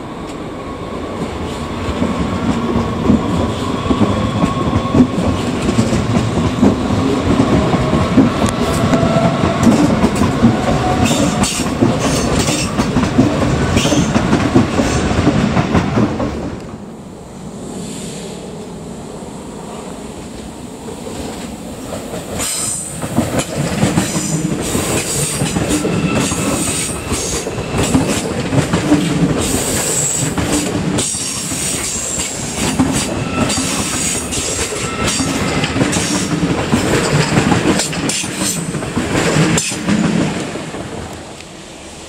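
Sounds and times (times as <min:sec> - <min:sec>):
high-speed train passing: 0:00.0 - 0:42.0.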